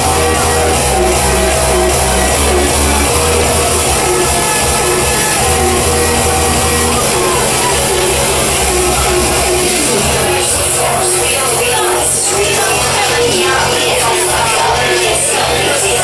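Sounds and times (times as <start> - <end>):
loud hardstyle dance music: 0.0 - 16.0.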